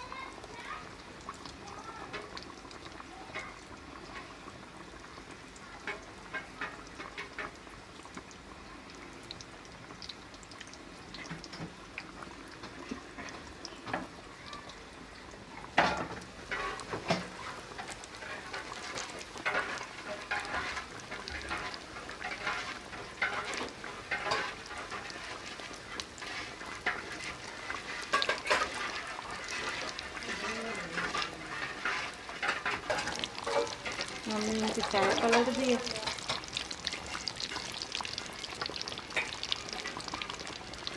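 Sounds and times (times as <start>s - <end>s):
food deep-frying in oil: 0.0s - 40.9s.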